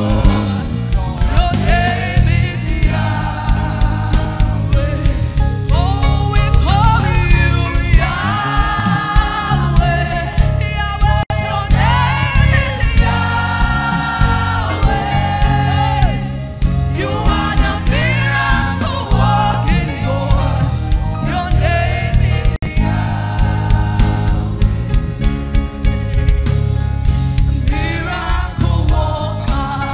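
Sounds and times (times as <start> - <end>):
congregation singing: 0.0 - 26.3, 27.4 - 29.9
band accompaniment with bass: 0.0 - 29.9.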